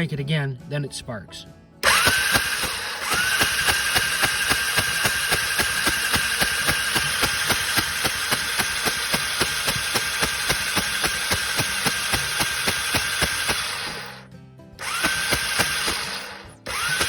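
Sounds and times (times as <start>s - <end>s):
electric starter cranking engine: 1.8s - 17.0s.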